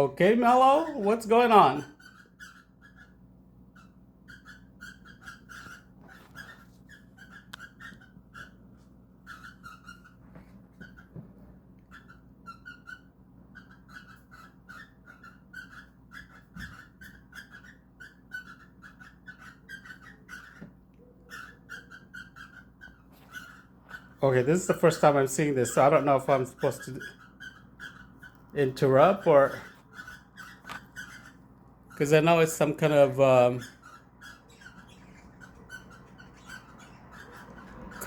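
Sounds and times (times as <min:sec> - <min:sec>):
cockatiels chirping: 0:00.0 - 0:38.0.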